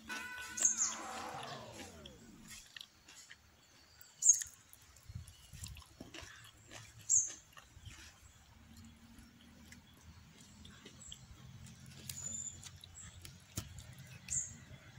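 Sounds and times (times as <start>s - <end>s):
chewing crispy food: 0.1s - 14.9s.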